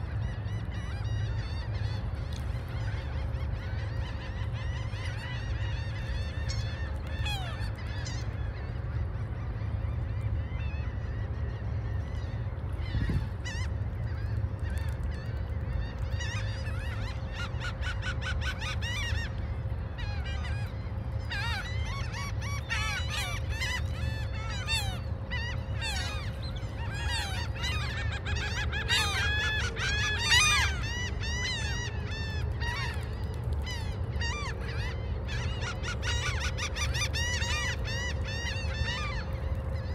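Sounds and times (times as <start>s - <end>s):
gulls squawking: 0.0s - 39.9s
wind: 0.0s - 39.9s.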